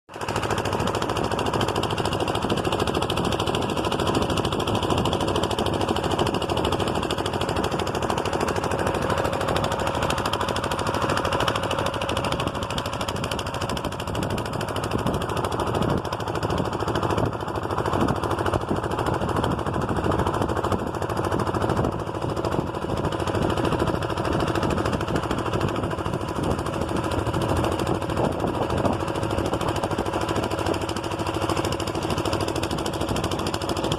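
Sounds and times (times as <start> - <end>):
engine chugging: 0.1 - 33.9.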